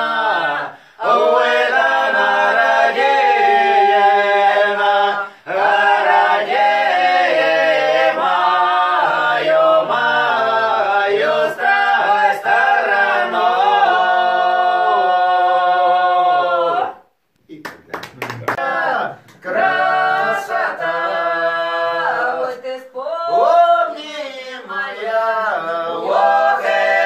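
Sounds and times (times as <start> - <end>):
group singing a cappella: 0.0 - 17.2, 18.5 - 27.0.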